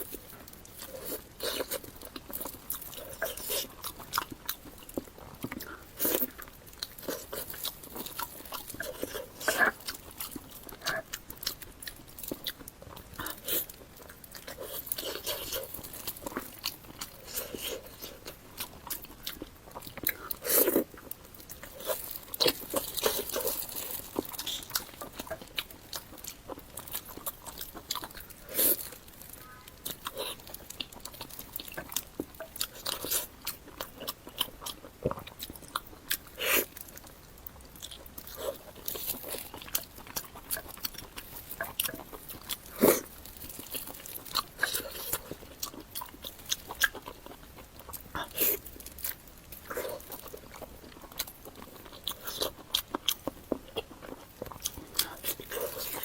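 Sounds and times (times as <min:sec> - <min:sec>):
person chewing and biting: 0:00.0 - 0:56.0.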